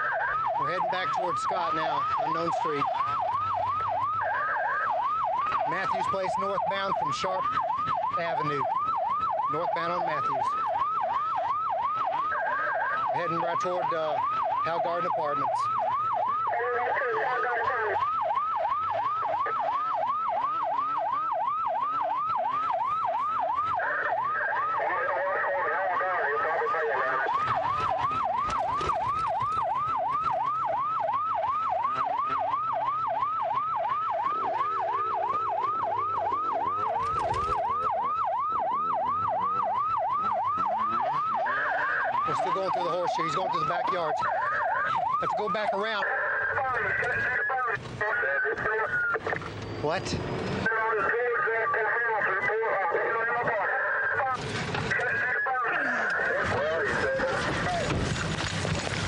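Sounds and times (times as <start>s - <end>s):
police siren yelping: 0.0s - 59.0s.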